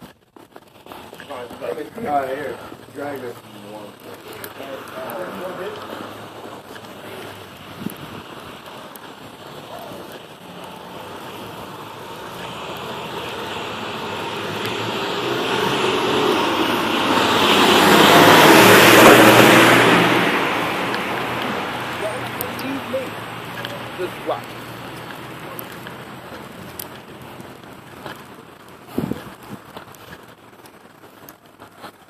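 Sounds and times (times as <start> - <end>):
vehicle passing by: 1.3 - 29.6.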